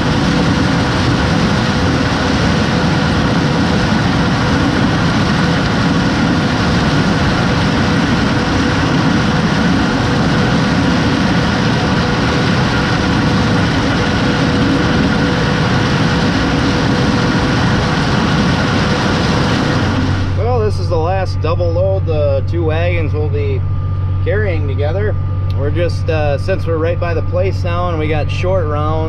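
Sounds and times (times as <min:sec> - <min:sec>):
constant machine whine: 0:00.0 - 0:29.0
farm machinery engine drone: 0:00.0 - 0:29.0.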